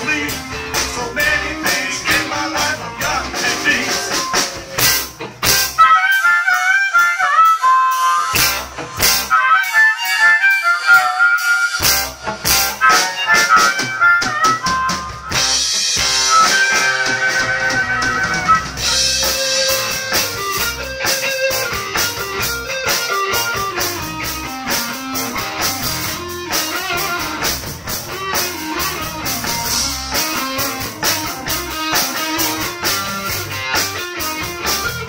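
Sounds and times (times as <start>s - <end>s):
electric bass: 0.0s - 6.0s, 8.3s - 9.7s, 11.8s - 35.0s
drums: 0.0s - 35.0s
electric guitar: 0.0s - 35.0s
harmonica solo: 0.3s - 35.0s.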